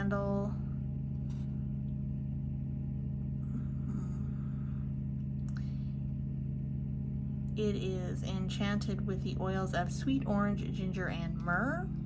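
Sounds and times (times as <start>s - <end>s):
low two-tone hum: 0.0s - 12.0s.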